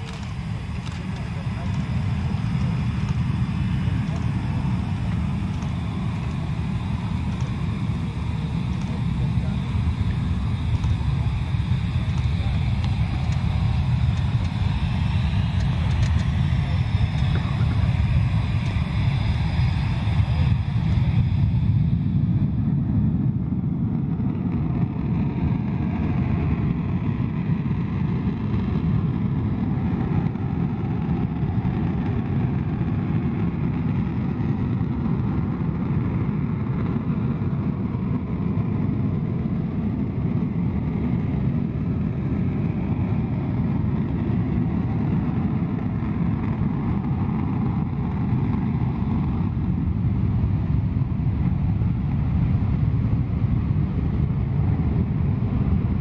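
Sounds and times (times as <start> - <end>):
loud steady jet engine roar: 0.0 - 56.0.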